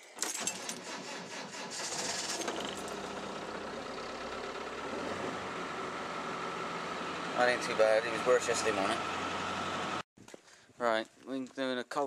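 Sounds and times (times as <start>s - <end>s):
engine cranking and idling: 0.3s - 10.0s.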